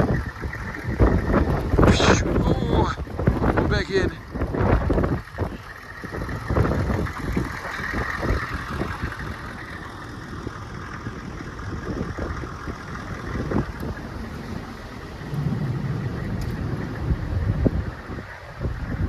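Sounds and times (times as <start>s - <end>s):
blizzard wind buffeting microphone: 0.0s - 19.0s.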